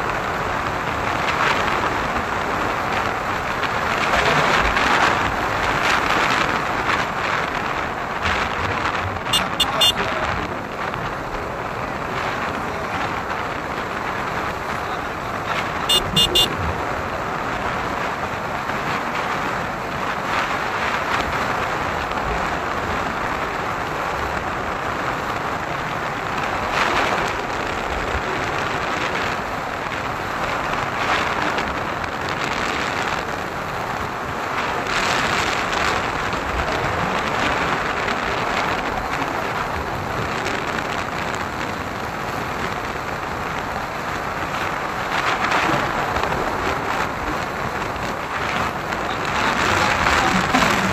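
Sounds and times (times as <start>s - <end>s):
road and engine noise: 0.0s - 50.9s
wind rushing over microphone: 0.0s - 50.9s.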